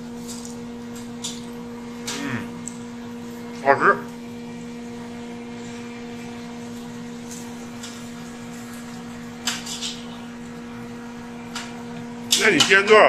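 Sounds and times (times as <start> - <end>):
machinery hum: 0.0 - 13.0.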